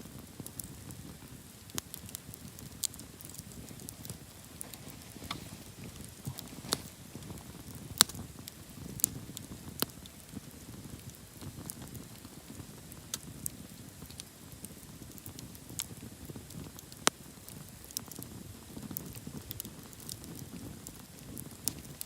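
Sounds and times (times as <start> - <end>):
campfire crackling: 0.0 - 22.0
low rush of burning: 0.0 - 22.0.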